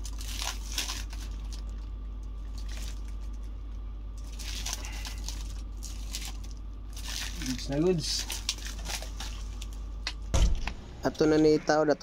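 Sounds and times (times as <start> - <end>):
plastic wrap crinkling: 0.0 - 10.1
steady low hum: 0.0 - 12.0.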